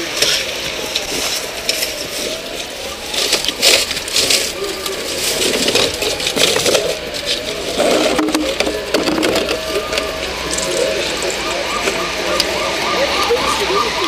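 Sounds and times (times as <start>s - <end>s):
people talking: 0.0s - 14.0s.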